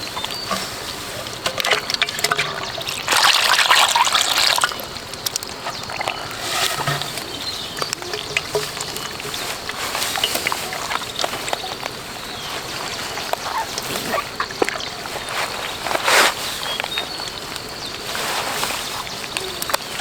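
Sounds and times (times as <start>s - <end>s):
rush of water: 0.0s - 20.0s
water trickling and splashing: 0.0s - 20.0s.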